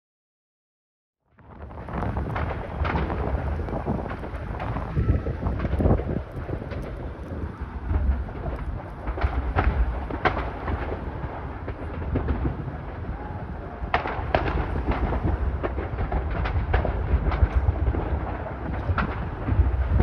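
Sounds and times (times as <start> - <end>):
fire cracking and banging: 1.3 - 20.0
low rumble: 1.4 - 20.0.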